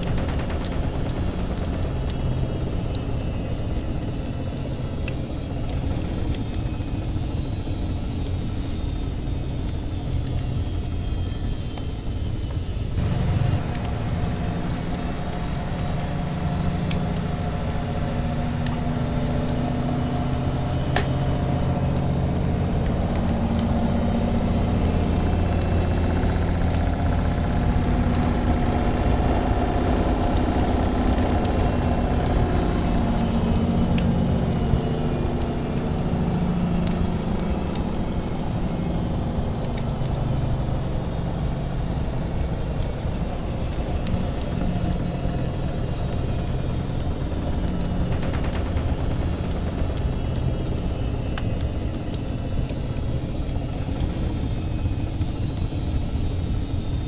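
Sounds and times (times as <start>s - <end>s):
wood fire crackling: 0.0s - 7.3s, 12.6s - 56.2s
washing machine motor hum: 0.0s - 57.0s.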